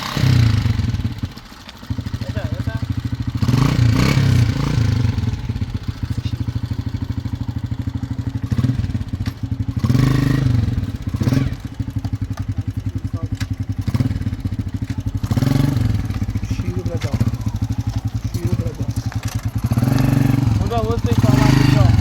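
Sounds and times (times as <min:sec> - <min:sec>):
small motorcycle engine revving: 0:00.0 - 0:22.0.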